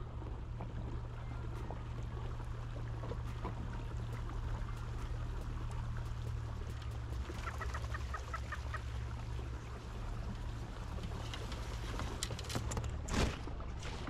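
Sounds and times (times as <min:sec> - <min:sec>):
trolling motor humming: 0:00.0 - 0:14.0.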